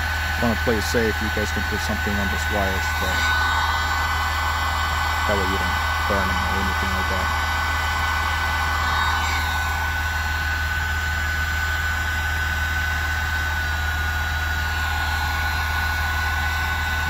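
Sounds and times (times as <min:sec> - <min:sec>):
heat gun blowing hot air: 0:00.0 - 0:17.0.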